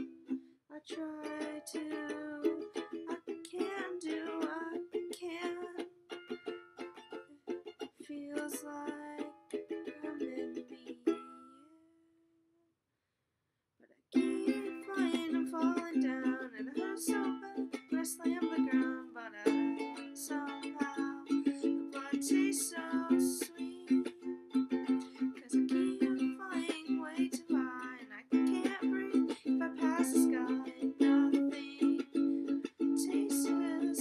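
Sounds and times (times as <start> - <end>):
ukulele strumming: 0.0 - 11.8, 14.2 - 34.0
woman singing: 0.7 - 5.9, 8.0 - 11.8, 14.1 - 34.0.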